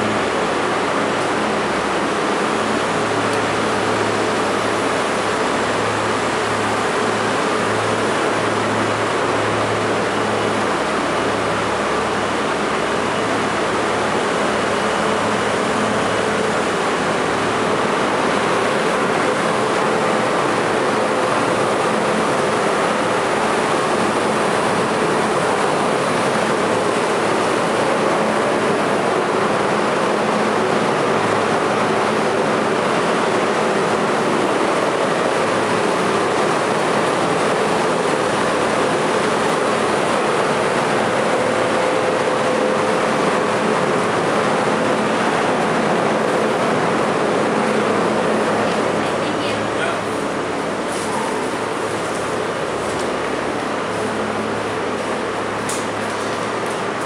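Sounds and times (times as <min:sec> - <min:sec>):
subway train rumble and hiss: 0:00.0 - 0:57.0.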